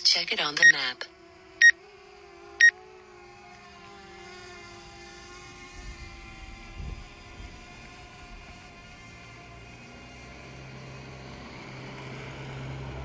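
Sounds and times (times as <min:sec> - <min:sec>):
drone propellers humming: 0:00.0 - 0:13.0.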